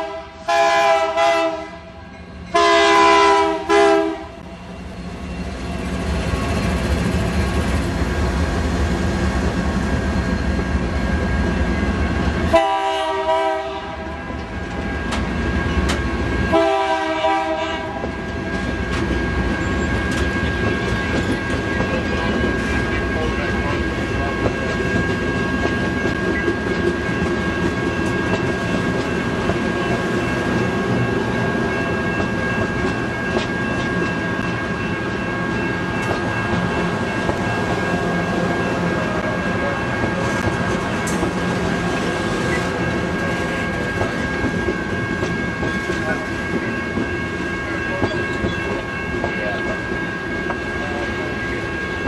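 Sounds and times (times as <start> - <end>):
train cars rolling on rails: 0.0 - 52.0.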